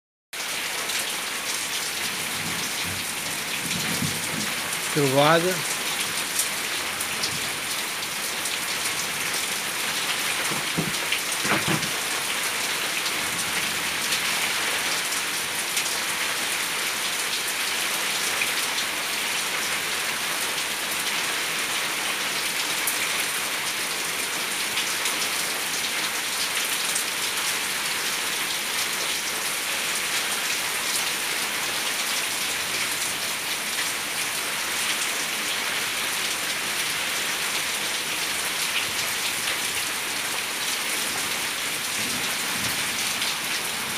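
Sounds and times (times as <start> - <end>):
rain on paving: 0.4 - 43.9.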